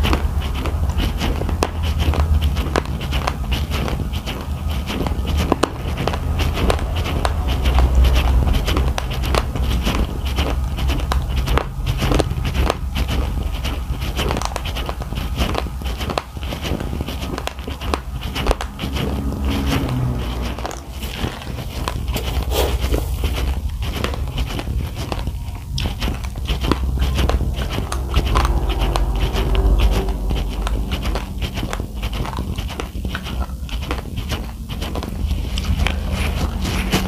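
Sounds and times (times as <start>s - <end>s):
crunching raw rice grains: 0.0s - 37.0s
steady low rumble: 0.0s - 37.0s.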